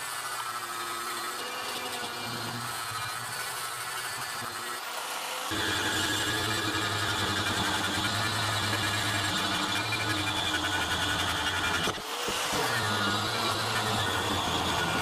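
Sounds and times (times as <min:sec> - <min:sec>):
angle grinder grinding metal: 0:00.0 - 0:15.0.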